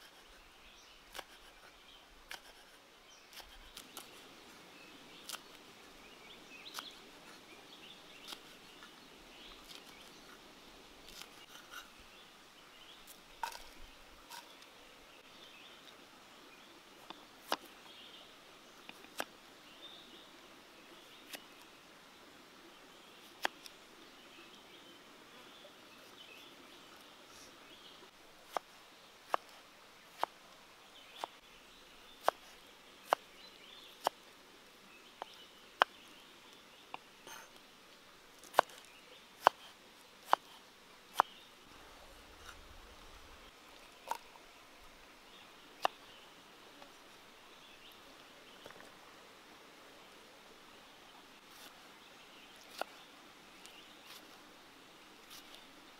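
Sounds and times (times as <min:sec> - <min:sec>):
faint steady background hiss: 0:00.0 - 0:55.9.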